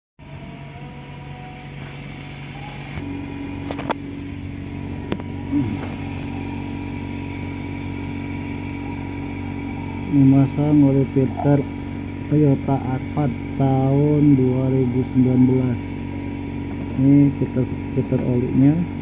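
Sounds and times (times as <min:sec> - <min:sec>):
motor running drone: 0:00.2 - 0:19.0.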